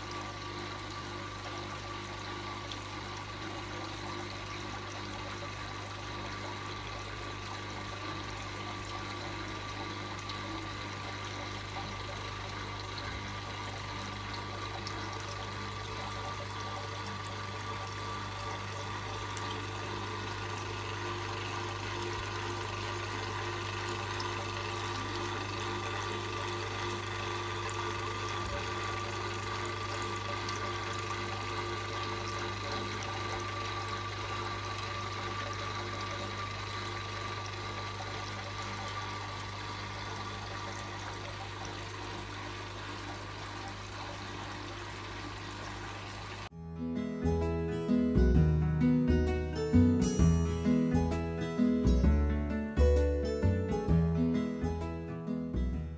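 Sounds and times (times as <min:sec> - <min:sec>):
water trickling into pool: 0:00.0 - 0:46.5.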